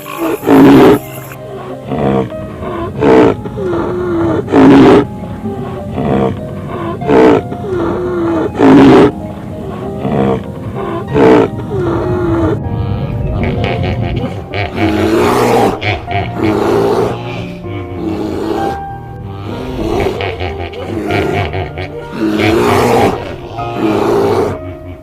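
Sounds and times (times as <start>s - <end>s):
large animal roaring: 0.0s - 24.7s.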